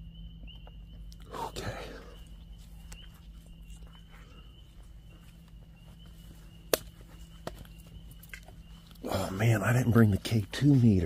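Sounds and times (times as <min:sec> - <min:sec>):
footsteps rustling: 0:02.0 - 0:11.0.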